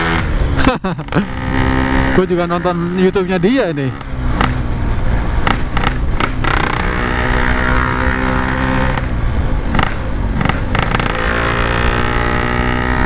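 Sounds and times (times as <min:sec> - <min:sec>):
two-stroke motorcycle engine cruising: 0:00.0 - 0:13.0.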